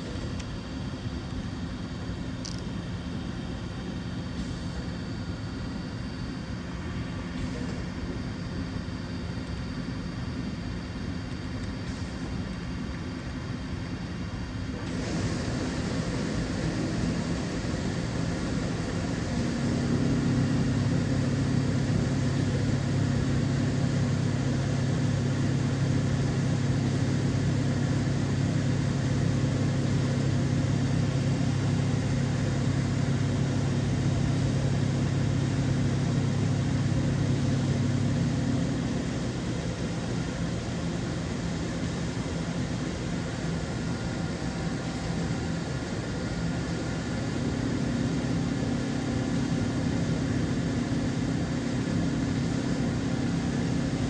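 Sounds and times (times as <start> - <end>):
cnc mill mechanical hum: 0.0 - 54.0.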